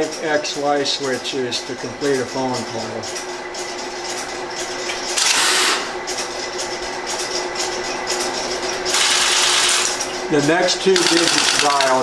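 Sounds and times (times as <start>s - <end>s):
steady hum: 0.0s - 12.0s
rapid mechanical clatter: 1.8s - 12.0s.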